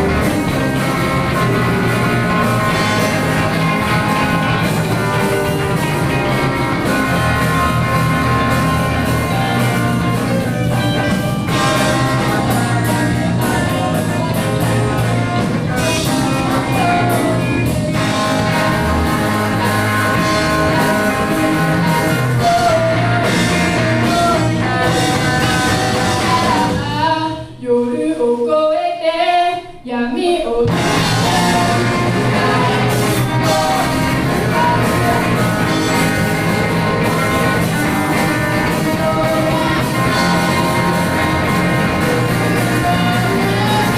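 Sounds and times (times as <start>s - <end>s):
rock band with singing: 0.0s - 43.9s.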